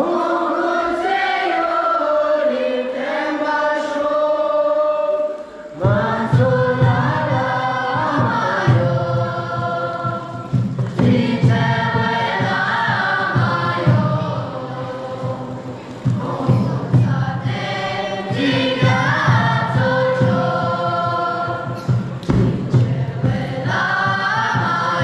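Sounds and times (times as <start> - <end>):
group of people singing: 0.0 - 25.0.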